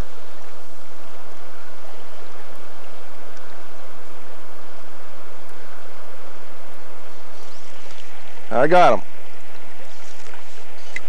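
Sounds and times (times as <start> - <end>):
low steady hum: 0.0 - 11.0
river current rushing: 0.0 - 11.0.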